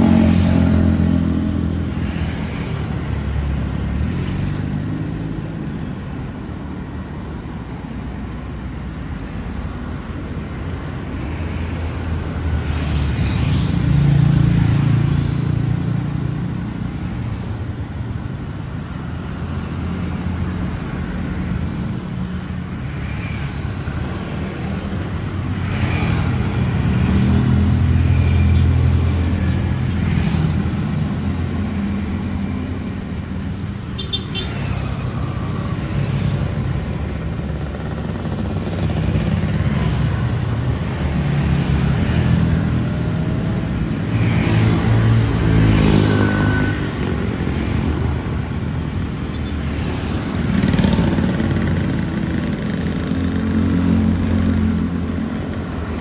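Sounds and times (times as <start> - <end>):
cars passing: 0.0 - 56.0
motorcycle engines: 0.0 - 56.0.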